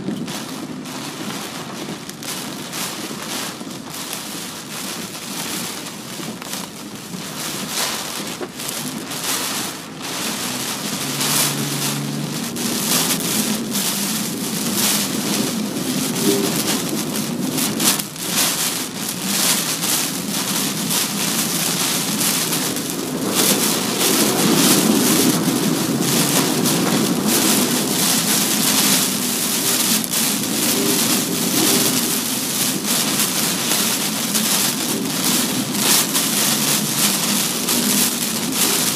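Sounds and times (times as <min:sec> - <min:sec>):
heavy rain and wind on car: 0:00.0 - 0:38.9.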